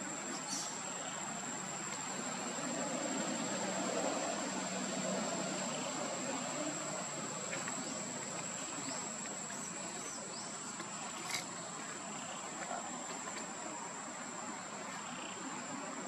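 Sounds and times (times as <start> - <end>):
background hiss: 0.0 - 16.0
insects buzzing: 0.0 - 16.0.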